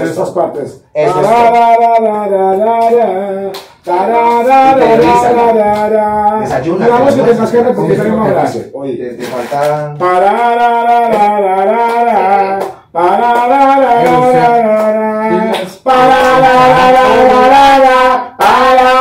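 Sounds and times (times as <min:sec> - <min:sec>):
person singing slow melody: 0:01.0 - 0:07.3, 0:09.5 - 0:19.0.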